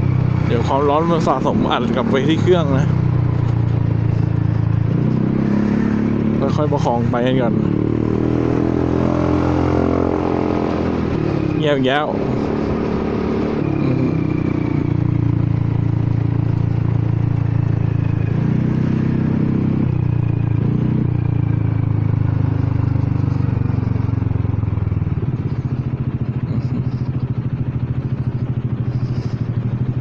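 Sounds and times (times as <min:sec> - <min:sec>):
scooter engine running: 0:00.0 - 0:30.0.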